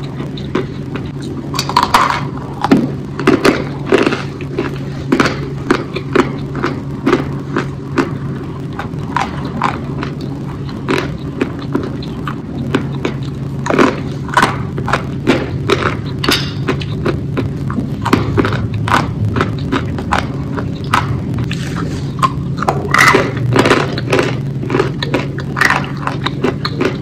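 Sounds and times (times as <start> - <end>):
low steady hum: 0.0 - 27.0
person chewing food: 0.0 - 27.0.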